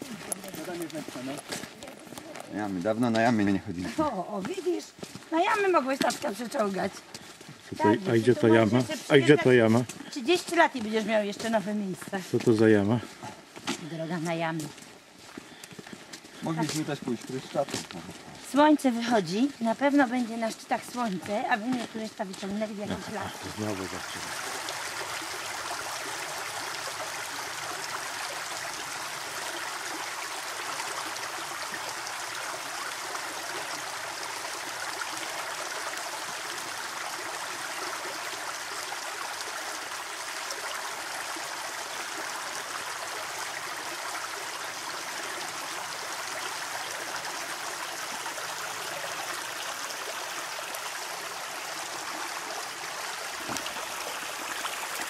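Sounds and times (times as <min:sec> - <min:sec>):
stream flowing over stones: 0:00.0 - 0:55.0.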